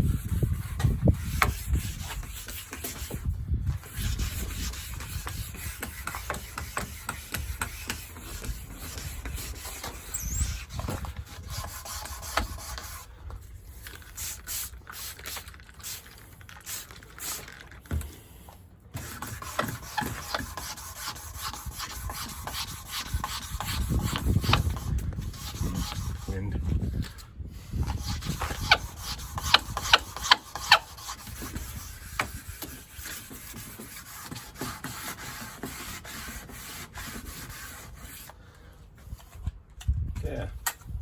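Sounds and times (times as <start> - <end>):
sandpaper rubbing wet surface: 0.0 - 17.6, 19.0 - 26.5, 27.5 - 38.4.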